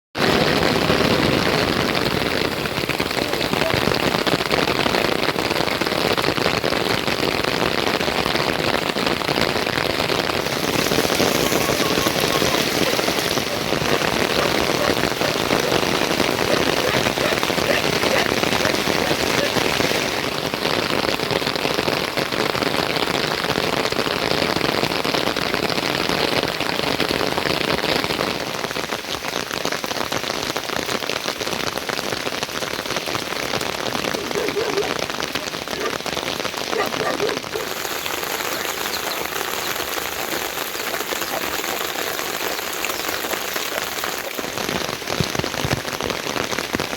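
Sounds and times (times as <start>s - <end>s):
heavy rain: 0.2s - 46.9s.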